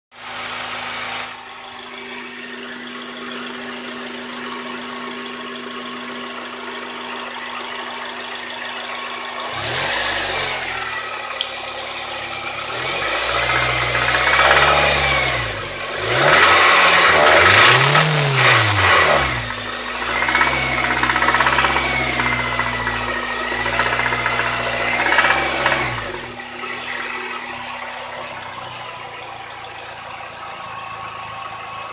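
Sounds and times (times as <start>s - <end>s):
car engine idling and revving: 0.2s - 31.9s.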